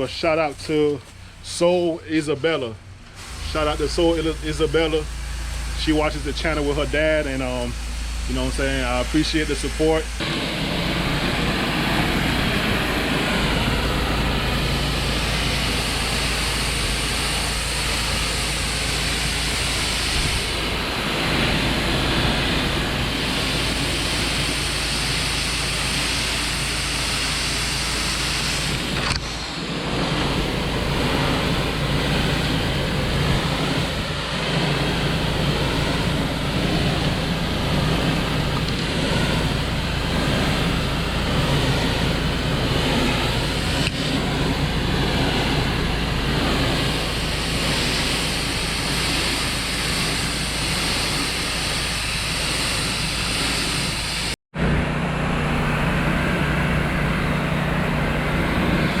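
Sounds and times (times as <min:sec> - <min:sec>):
pressure washer engine humming: 0:00.0 - 0:59.0
high-pressure water spray hiss: 0:03.2 - 0:54.4.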